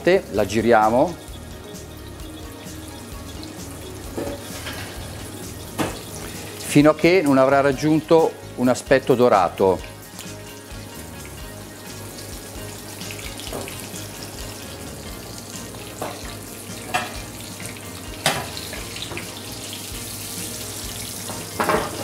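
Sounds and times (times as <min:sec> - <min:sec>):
cutlet sizzling in oil: 0:00.0 - 0:22.0.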